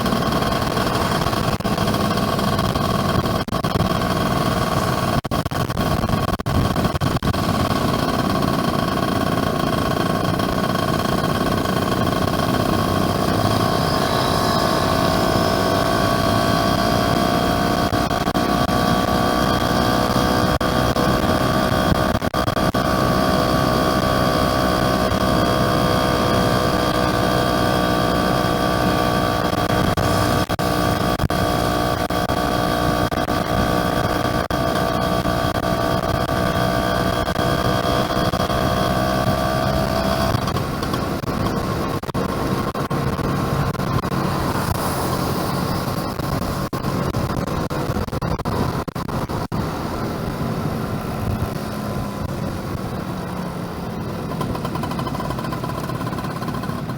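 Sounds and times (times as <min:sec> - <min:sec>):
two-stroke motorcycle engine running: 0:00.0 - 0:56.9.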